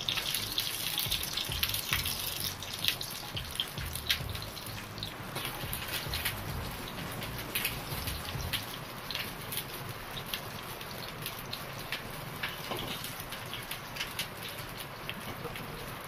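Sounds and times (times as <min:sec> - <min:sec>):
vegetable sizzling on hot pan: 0:00.0 - 0:16.0.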